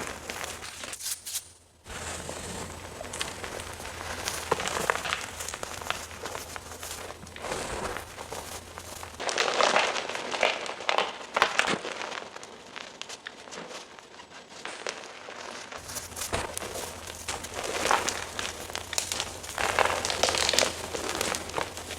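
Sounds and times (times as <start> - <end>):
chalk crunching and crumbling: 0.0 - 21.9.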